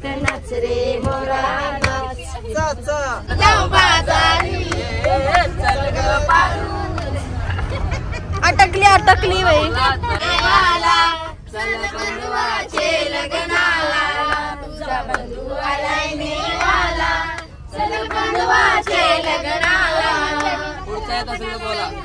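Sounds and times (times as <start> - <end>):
group of voices singing: 0.0 - 7.9, 9.1 - 22.0
low steady rumble: 0.0 - 22.0.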